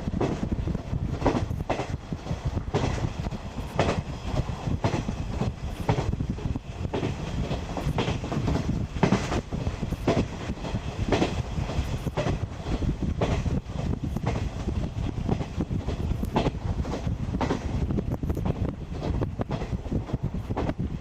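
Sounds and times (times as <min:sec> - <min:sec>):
train rumble: 0:00.0 - 0:21.0
wheels clacking over rail joints: 0:00.1 - 0:20.8.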